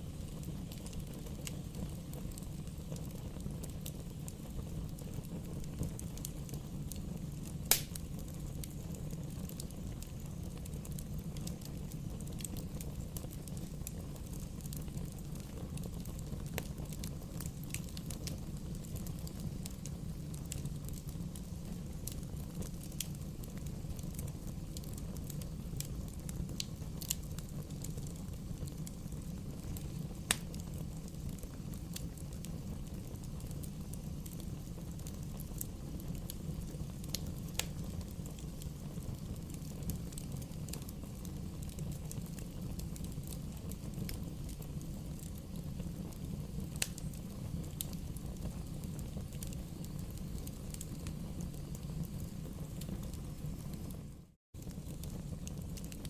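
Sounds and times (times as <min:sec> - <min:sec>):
bonfire burning: 0:00.0 - 0:56.0
fire popping and crackling: 0:00.0 - 0:56.0.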